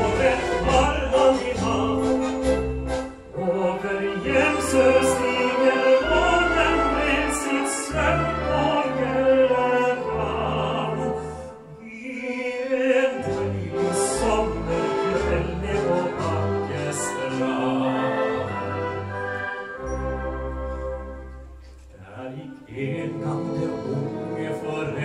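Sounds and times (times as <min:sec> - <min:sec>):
man singing classical style: 0:00.0 - 0:19.2, 0:21.9 - 0:25.0
orchestral accompaniment: 0:00.0 - 0:25.0.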